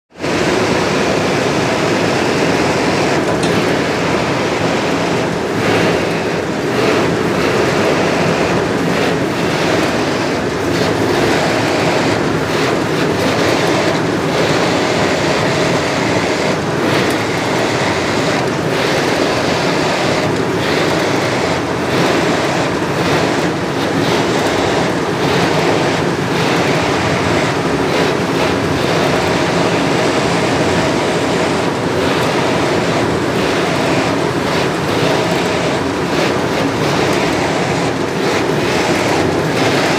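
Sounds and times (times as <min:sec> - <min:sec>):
workshop machine rattling: 0:00.1 - 0:39.9.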